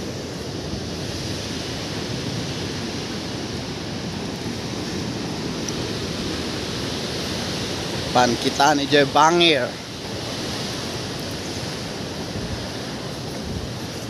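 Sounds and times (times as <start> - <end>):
floodwater roaring through spillway: 0.0 - 14.0.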